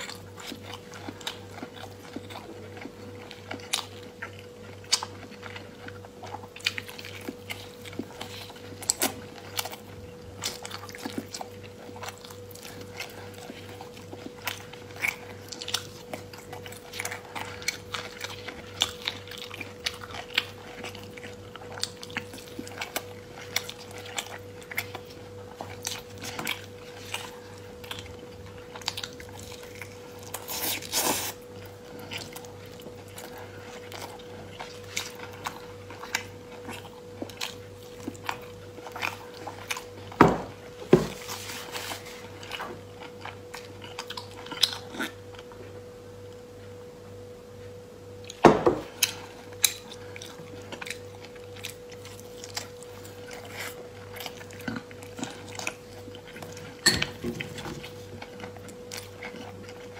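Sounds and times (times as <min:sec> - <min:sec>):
person chewing food: 0:00.0 - 0:46.8, 0:48.0 - 0:59.9
faint steady hum: 0:00.0 - 0:59.9.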